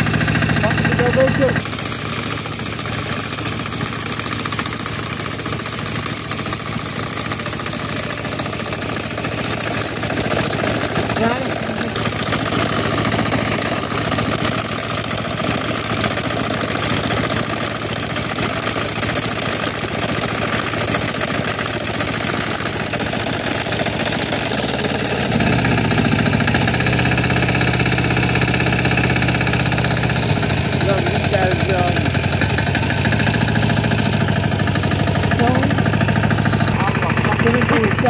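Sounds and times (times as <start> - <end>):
small tractor engine running: 0.0 - 38.0.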